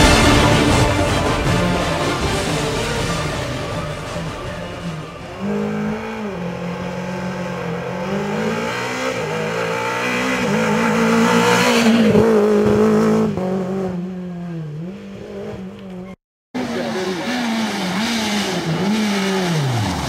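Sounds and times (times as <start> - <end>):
rally car engine at high revs: 0.0 - 20.0.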